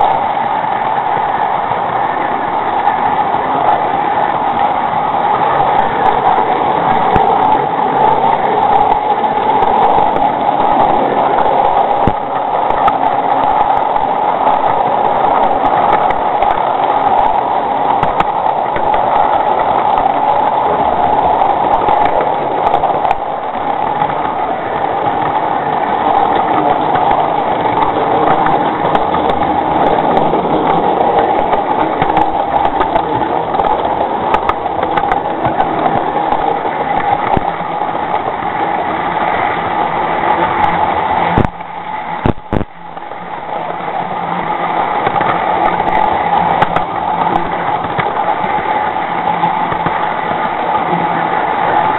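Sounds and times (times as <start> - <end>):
model train whirring: 0.0 - 51.9
faint clicks: 5.8 - 51.9.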